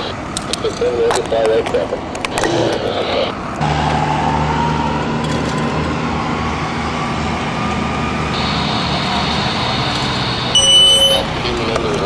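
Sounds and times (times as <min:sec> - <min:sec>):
jet turbine roaring: 0:00.0 - 0:12.0
higher whine: 0:02.0 - 0:12.0
rising turbine whine: 0:02.0 - 0:12.0.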